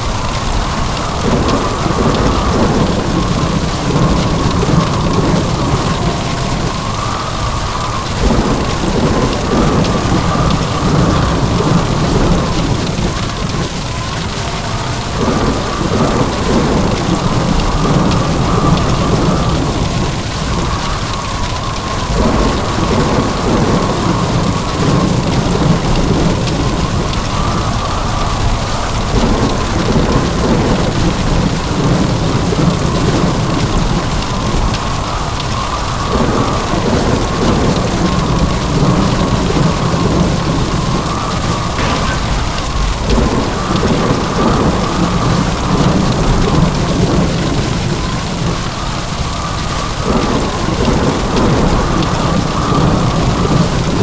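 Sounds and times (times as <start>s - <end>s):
heavy rain pouring: 0.0s - 54.0s
rumbling thunder: 0.0s - 54.0s.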